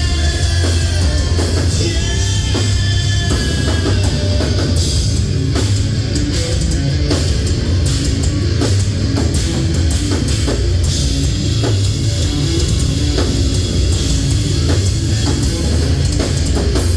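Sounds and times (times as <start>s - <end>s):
distorted electric guitars: 0.0s - 16.9s
drum kit beat: 0.0s - 16.9s.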